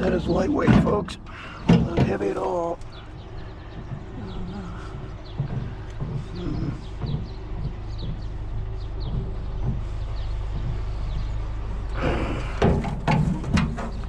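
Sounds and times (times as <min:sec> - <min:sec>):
loud clatter of knocks and scraping: 0:00.0 - 0:14.0
vehicle engine idling: 0:00.0 - 0:14.0.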